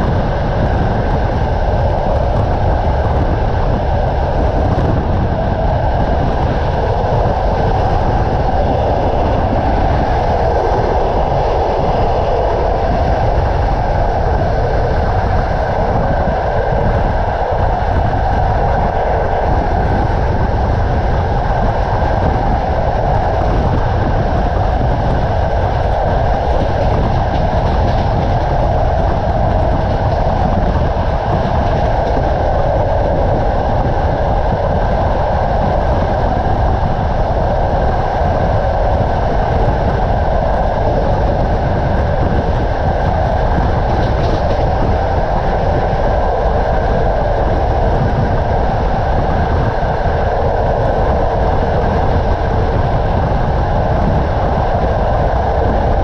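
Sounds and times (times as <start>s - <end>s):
rushing air noise: 0.0s - 56.0s
train wheels rumbling on rail: 0.0s - 56.0s.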